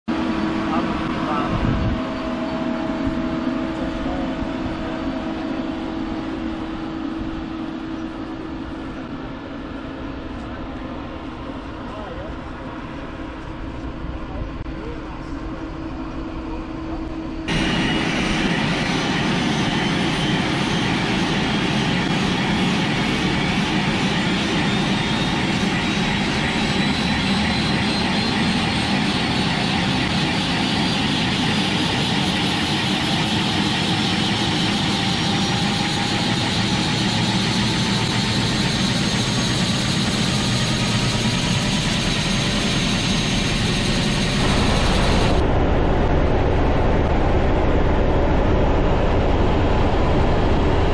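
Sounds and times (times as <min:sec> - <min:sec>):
helicopter turbine whine: 0:00.1 - 0:50.9.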